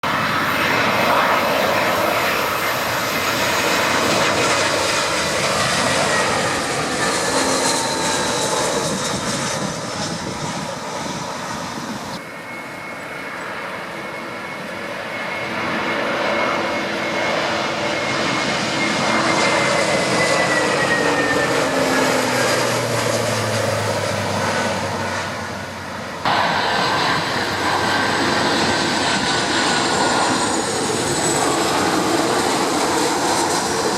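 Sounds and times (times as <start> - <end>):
jet airliner engines roaring: 0.0 - 33.9.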